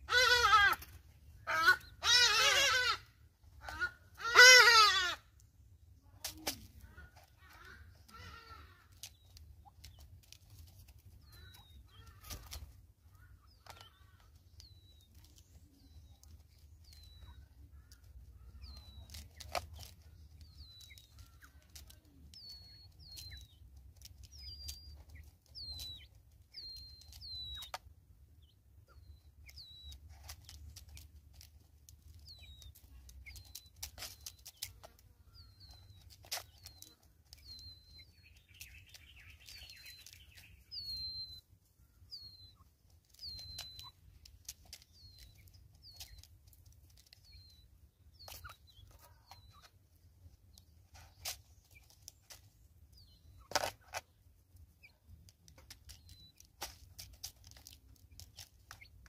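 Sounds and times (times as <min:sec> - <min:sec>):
bird peeping: 0:00.0 - 0:59.0
beaks pecking plastic feeder: 0:06.2 - 0:59.0.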